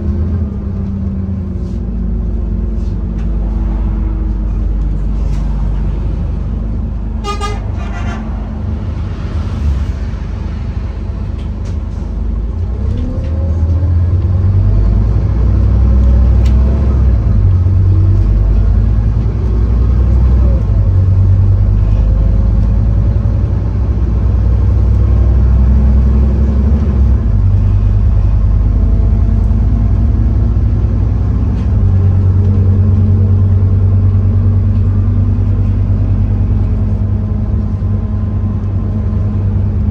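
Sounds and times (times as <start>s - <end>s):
bus diesel engine under load: 0.0s - 39.9s.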